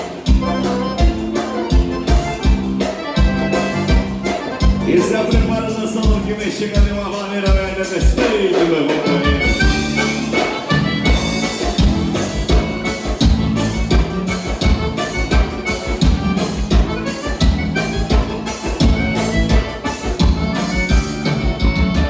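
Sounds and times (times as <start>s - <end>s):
accordion: 0.0s - 22.0s
dance band playing: 0.0s - 22.0s
steady drum kit beat: 0.0s - 22.0s.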